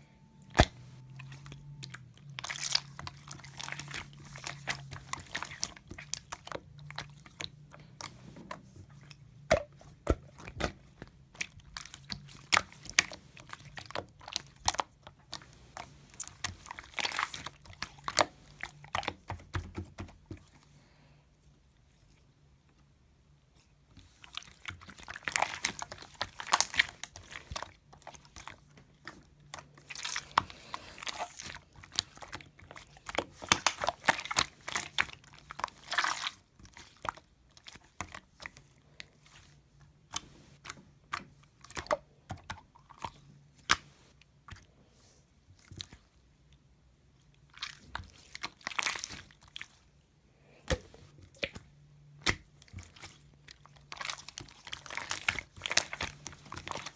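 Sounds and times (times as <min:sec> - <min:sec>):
slime squished by hand: 0:00.4 - 0:20.8, 0:24.0 - 0:44.7, 0:47.3 - 0:50.0, 0:50.6 - 0:56.9.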